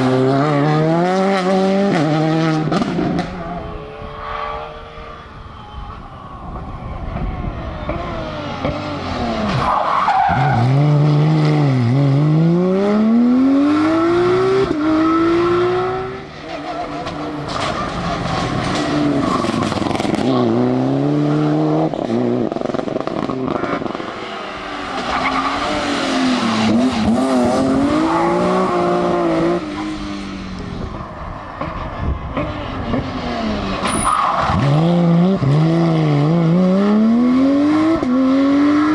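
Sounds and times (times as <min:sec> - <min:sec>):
rally car engines revving: 0:00.0 - 0:05.4, 0:07.0 - 0:38.9.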